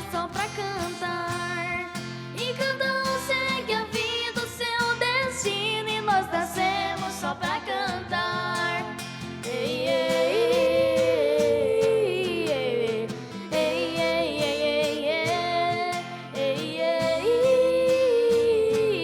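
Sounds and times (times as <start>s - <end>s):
two voices singing in harmony: 0.0s - 19.0s.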